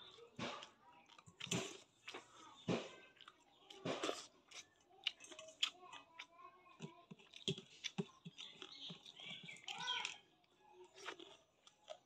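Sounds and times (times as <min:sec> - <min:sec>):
chewing and mouth smacks: 0:00.0 - 0:12.0
fingers mixing wet food in bowl: 0:00.0 - 0:12.0.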